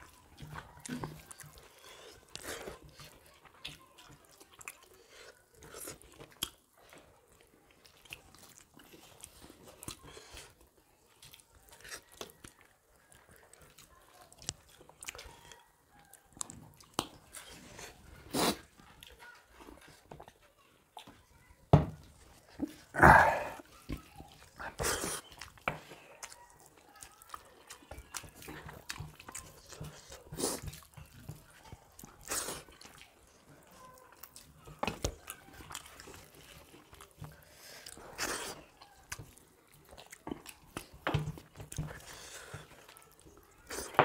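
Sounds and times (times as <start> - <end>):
wet chewing and lip-smacking: 0.0 - 44.0.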